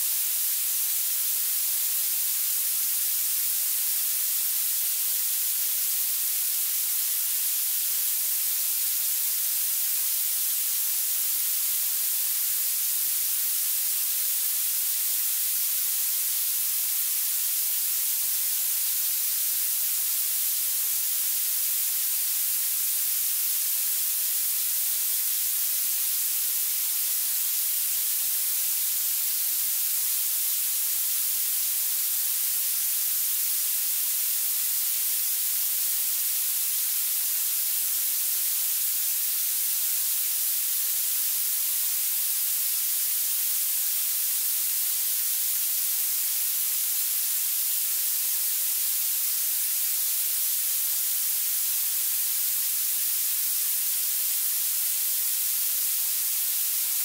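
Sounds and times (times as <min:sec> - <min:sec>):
high-pitched steady hiss: 0:00.0 - 0:57.0.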